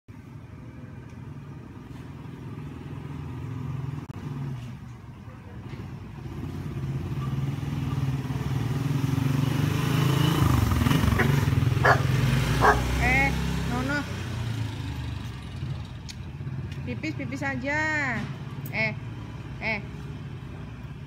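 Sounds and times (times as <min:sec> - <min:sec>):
vehicle engine humming: 0:00.1 - 0:21.0.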